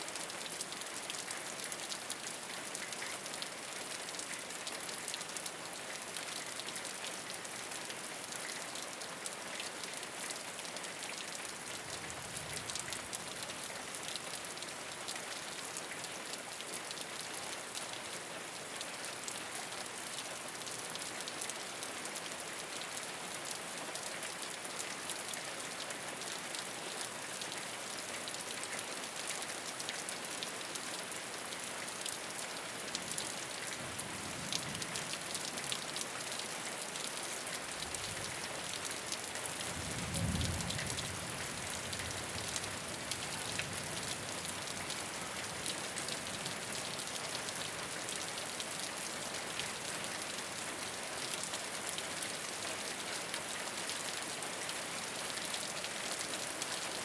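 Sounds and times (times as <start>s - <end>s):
rain on a rooftop: 0.0s - 57.0s.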